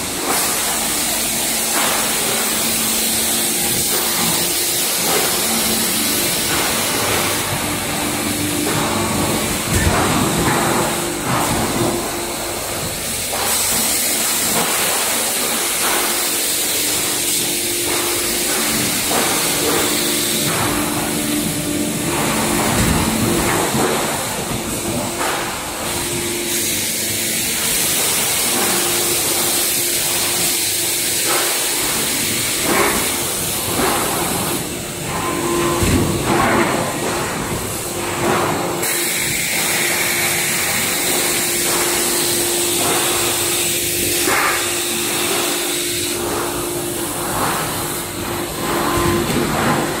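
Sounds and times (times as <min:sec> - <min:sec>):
hydraulic units hissing and humming: 0:00.0 - 0:50.0.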